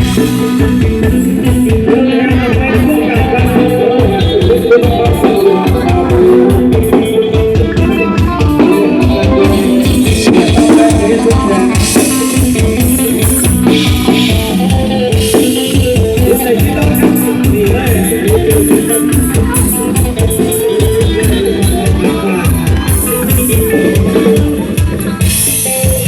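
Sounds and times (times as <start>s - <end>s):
procession music from loudspeakers: 0.0s - 25.2s
fast drum beat: 0.0s - 26.0s.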